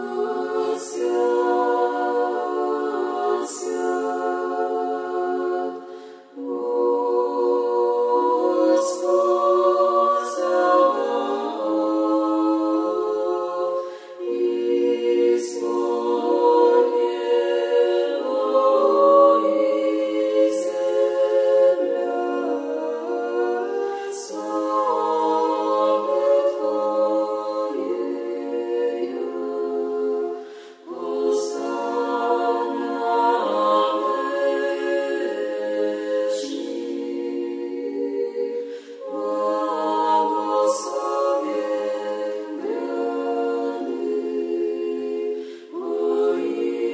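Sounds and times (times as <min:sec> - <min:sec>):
choir singing unaccompanied: 0:00.0 - 0:46.9.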